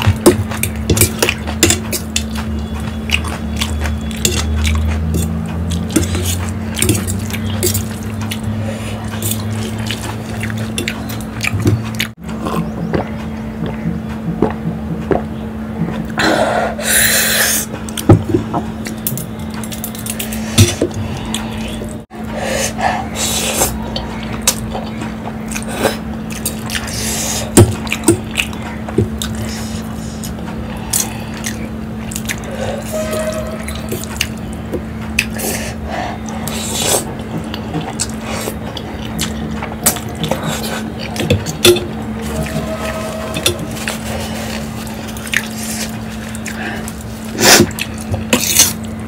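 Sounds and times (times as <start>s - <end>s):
wet chewing and slurping: 0.0s - 49.0s.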